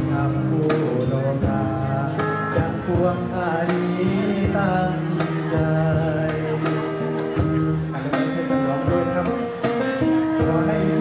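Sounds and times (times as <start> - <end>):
acoustic guitar strumming: 0.0 - 11.0
cajon beats: 0.0 - 11.0
man singing: 0.0 - 11.0.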